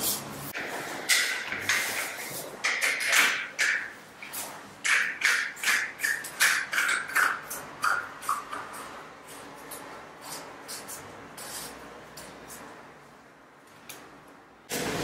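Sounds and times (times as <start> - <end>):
scraping strokes on tile floor: 0.0 - 12.7.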